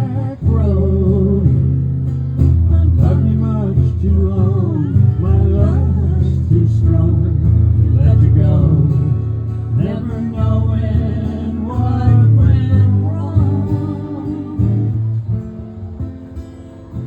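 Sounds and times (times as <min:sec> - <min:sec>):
acoustic guitar: 0:00.0 - 0:17.0.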